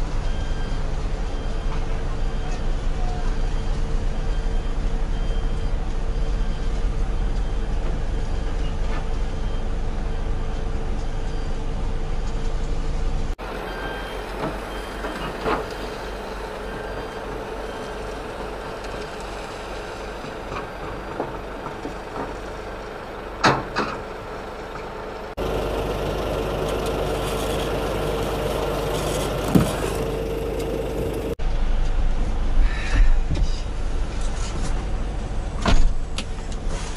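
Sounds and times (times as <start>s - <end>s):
mixer truck engine rumble: 0.0s - 36.9s.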